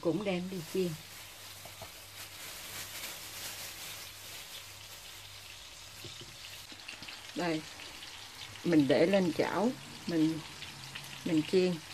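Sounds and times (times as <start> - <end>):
oil sizzling and crackling: 0.0 - 11.9.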